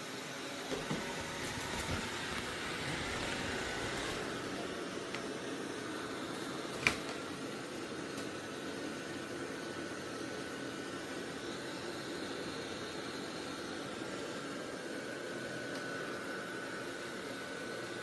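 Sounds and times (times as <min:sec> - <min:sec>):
robot vacuum fan whir: 0:00.0 - 0:18.0.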